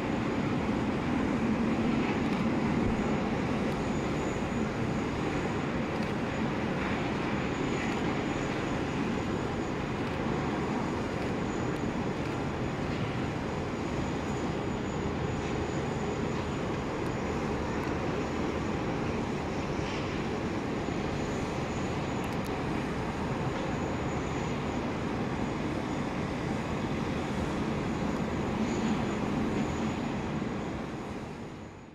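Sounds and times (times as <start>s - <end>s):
faint high engine whine: 0.0s - 31.9s
jet engines rumbling: 0.0s - 31.9s.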